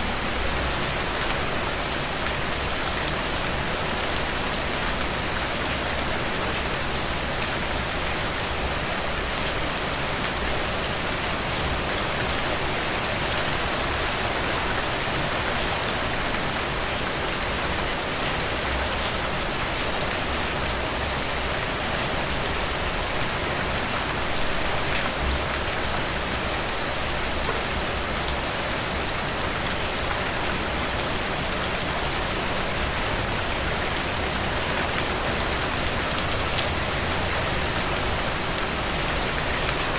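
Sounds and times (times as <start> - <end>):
rain hissing on leaves: 0.0 - 39.9.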